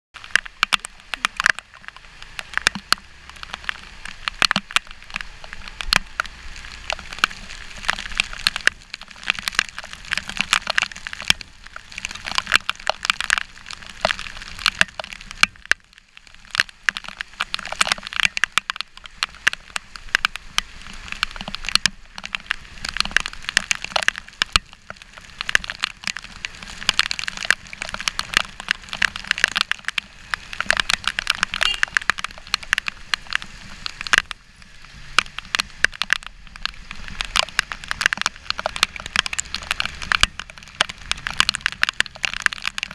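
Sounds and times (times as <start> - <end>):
raindrops tapping on camera housing: 0.2 - 42.9.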